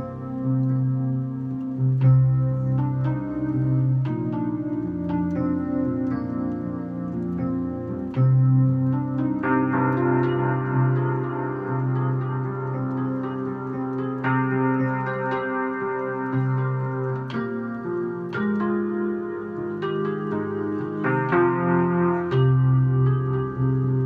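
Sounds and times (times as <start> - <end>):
digital piano chords: 0.0 - 24.0.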